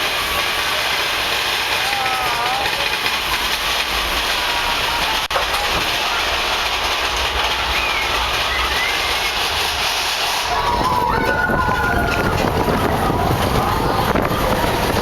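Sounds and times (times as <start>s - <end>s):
roller coaster wheels rumbling on rails: 0.0s - 15.0s.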